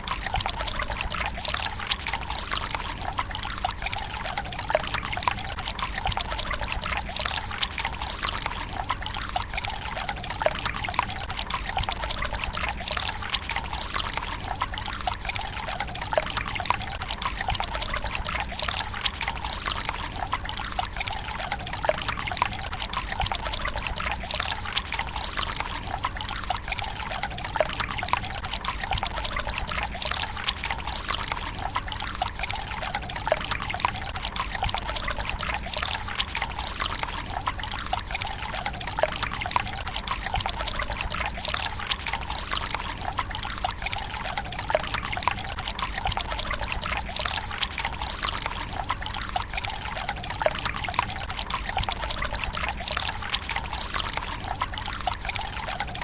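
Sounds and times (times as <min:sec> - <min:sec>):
water trickling into stone basin: 0:00.0 - 0:56.0.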